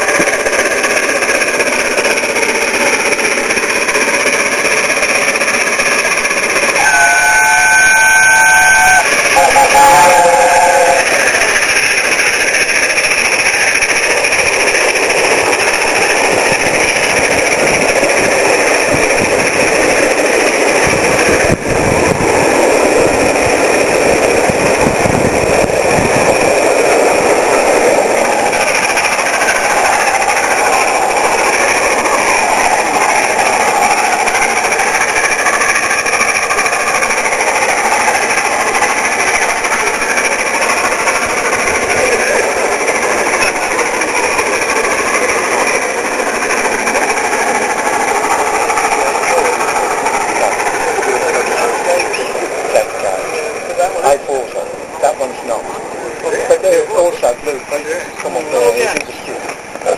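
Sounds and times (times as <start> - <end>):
steam locomotive working hard: 0.0 - 59.9
train rushing and clattering past: 0.0 - 59.9.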